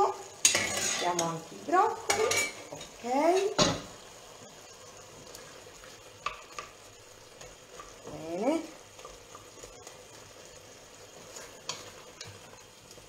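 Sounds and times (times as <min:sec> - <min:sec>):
vegetables sizzling in pot: 0:00.0 - 0:13.0.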